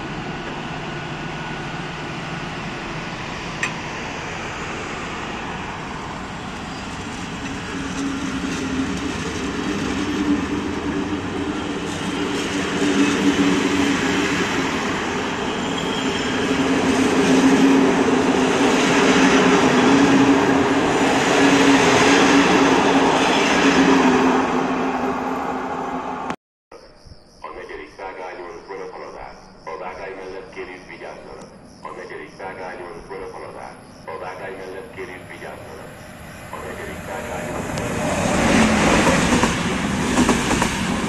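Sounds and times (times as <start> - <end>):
train coaches rolling on rails: 0.0 - 25.3, 32.1 - 41.0.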